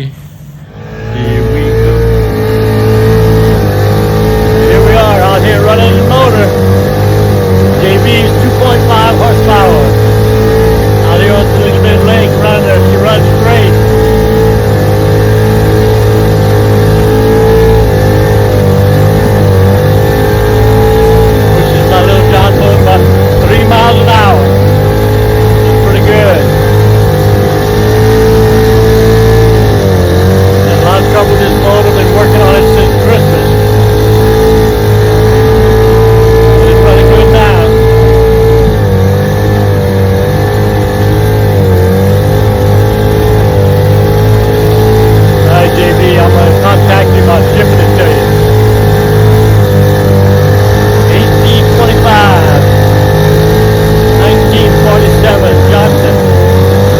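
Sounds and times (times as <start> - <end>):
outboard motor running: 0.0 - 56.9.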